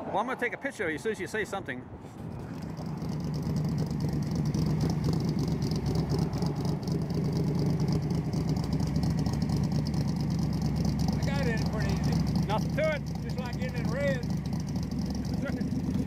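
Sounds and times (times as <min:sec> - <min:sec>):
race car engine idling: 0:02.2 - 0:16.0.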